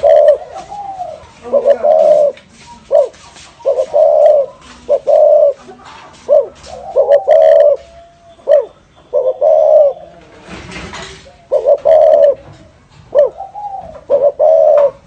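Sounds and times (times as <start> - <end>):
dove cooing: 0.0 - 10.4, 11.0 - 15.0.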